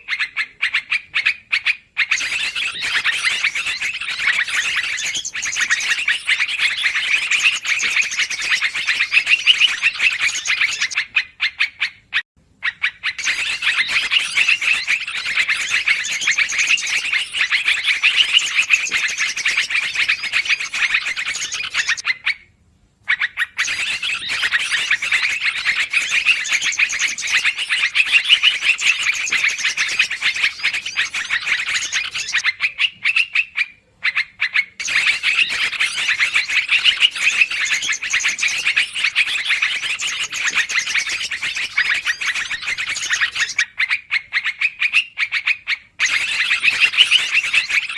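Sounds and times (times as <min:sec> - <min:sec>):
recorded bird chattering calls: 0:00.0 - 0:47.9.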